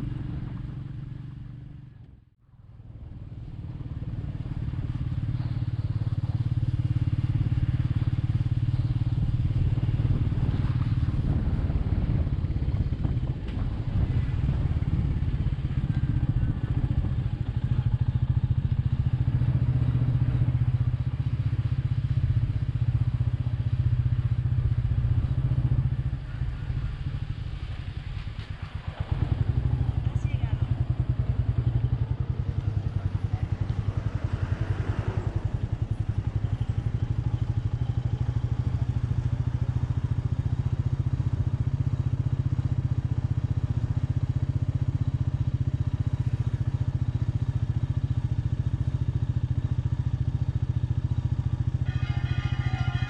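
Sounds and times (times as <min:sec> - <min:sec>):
motorcycle engine running: 0:00.0 - 0:53.0
road and wind noise: 0:00.0 - 0:53.0.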